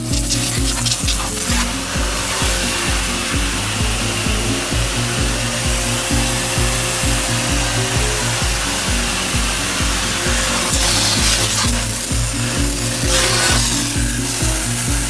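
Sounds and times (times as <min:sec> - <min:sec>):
dense hiss: 0:00.0 - 0:15.0
music with fast beat and bass: 0:00.0 - 0:15.0.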